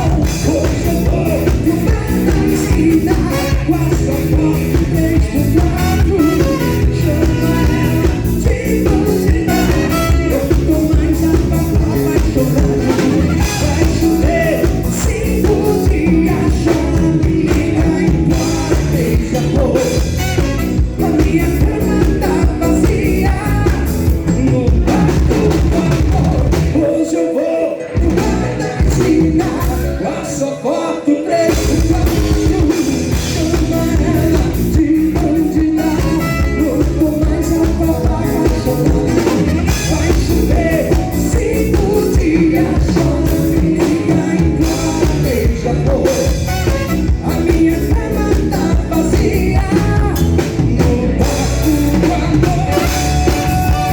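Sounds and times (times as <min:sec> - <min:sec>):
drums: 0:00.0 - 0:53.9
guitar: 0:00.0 - 0:53.9
person singing: 0:00.0 - 0:53.9.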